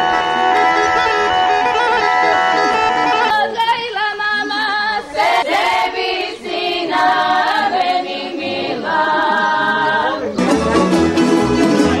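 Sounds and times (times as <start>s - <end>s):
girls and women singing folk song: 0.0s - 10.4s.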